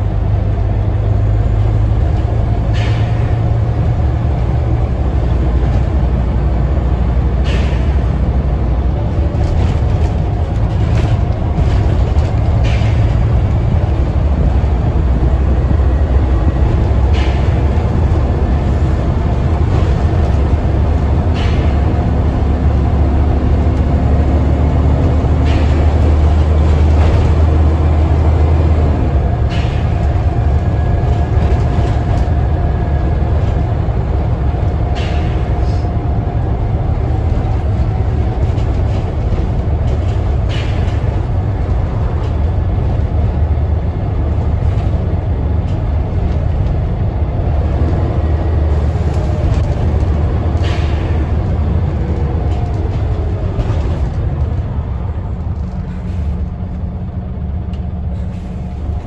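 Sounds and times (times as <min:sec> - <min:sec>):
bus engine and road drone: 0:00.0 - 0:59.0.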